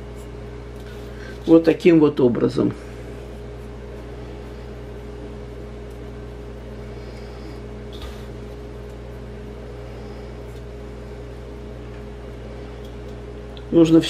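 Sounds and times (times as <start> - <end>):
steady hum of even tones: 0.0 - 14.0.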